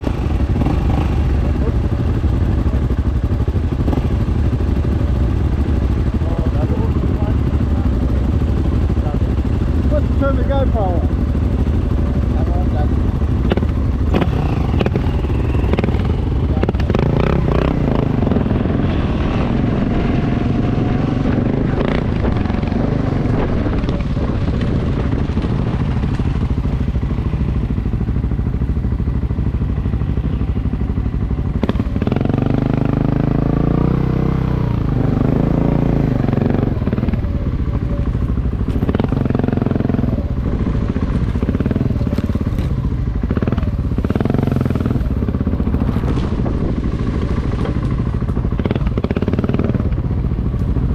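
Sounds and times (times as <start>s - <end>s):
motorcycle engine running: 0.0s - 50.9s
road and wind noise: 0.0s - 50.9s.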